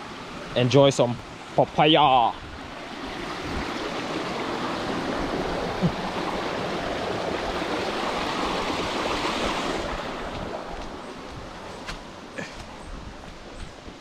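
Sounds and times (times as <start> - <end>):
flowing water rushing: 0.0 - 12.4.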